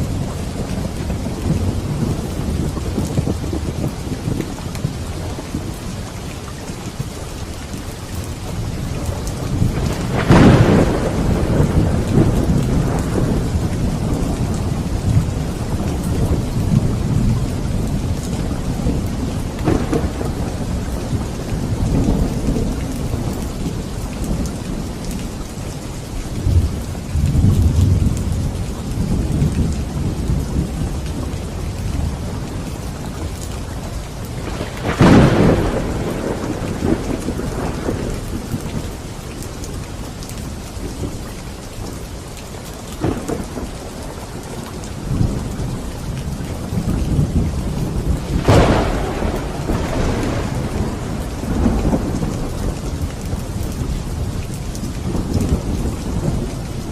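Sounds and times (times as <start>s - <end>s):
steady rain: 0.0s - 56.9s
thunder crack and rumble: 0.0s - 56.9s.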